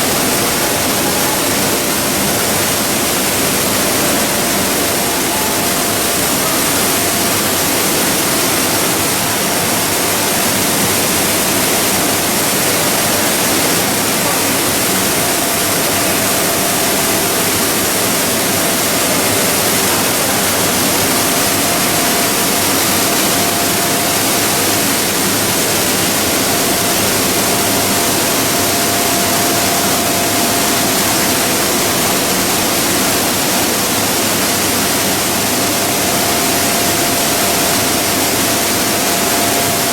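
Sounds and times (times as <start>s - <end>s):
pelletizing machinery running: 0.0s - 39.9s.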